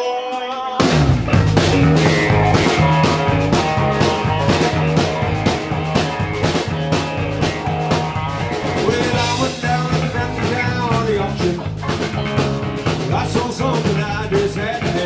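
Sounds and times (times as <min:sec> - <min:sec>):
electric guitar: 0:00.0 - 0:15.0
drum kit beat: 0:00.6 - 0:15.0
electric bass: 0:00.8 - 0:15.0.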